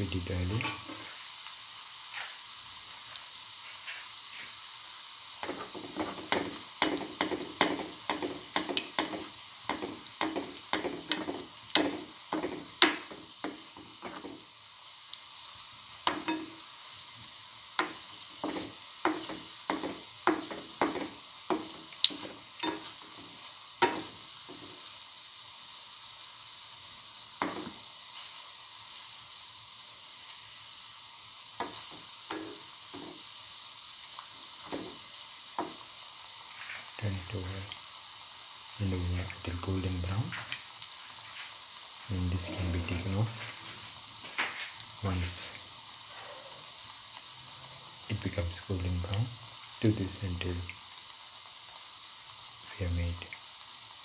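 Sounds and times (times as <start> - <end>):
fritters sizzling in oil: 0.0 - 54.0.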